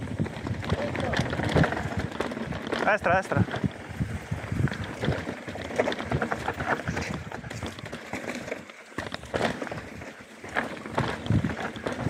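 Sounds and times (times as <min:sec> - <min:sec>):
tyres rattling over rocks: 0:00.0 - 0:12.0.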